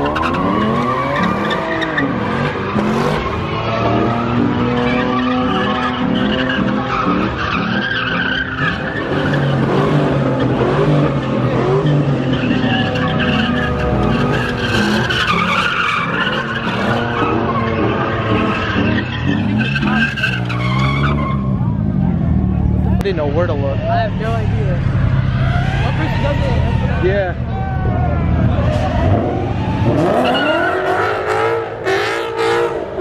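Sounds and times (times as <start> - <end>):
tyres screeching: 0.0 - 32.7
car engine revving: 0.0 - 33.0.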